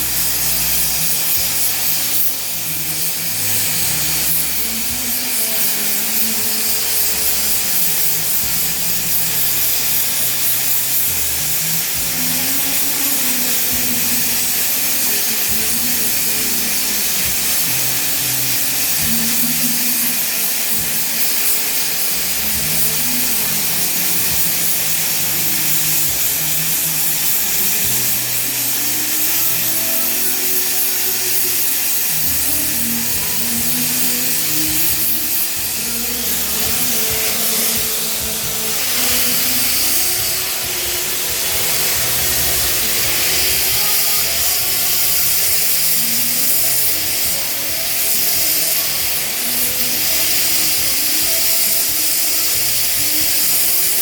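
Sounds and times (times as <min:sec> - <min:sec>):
background music: 0:00.0 - 0:54.0
gas torch flame hissing: 0:00.0 - 0:54.0.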